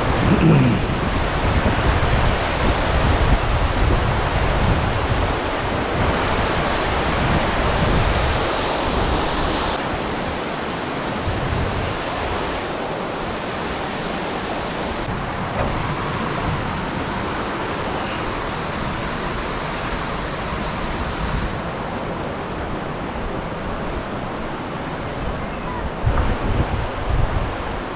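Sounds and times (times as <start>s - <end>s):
rushing outdoor noise: 0.0s - 27.9s
wind on microphone: 0.0s - 27.9s.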